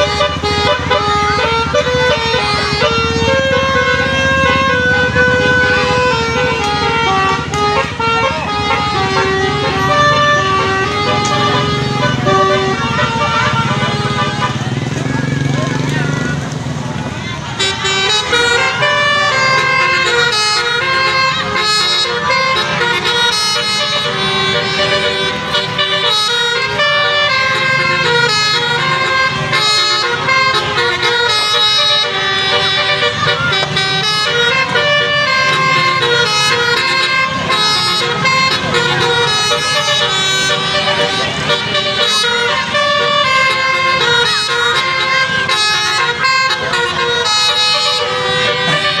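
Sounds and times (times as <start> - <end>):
multi-tone musical horns: 0.0 - 15.8, 17.3 - 49.0.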